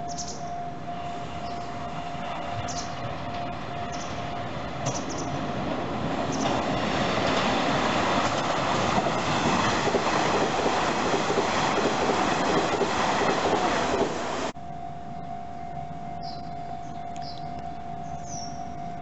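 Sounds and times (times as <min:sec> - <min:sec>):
electric train passing on rails: 0:00.0 - 0:19.0.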